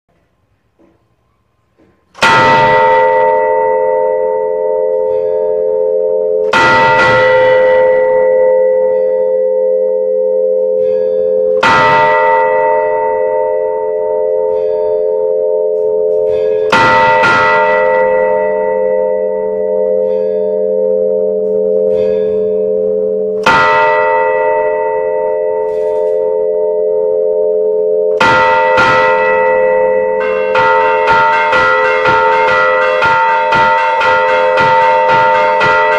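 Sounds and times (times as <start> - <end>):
large church bell ringing: 1.7 - 35.9.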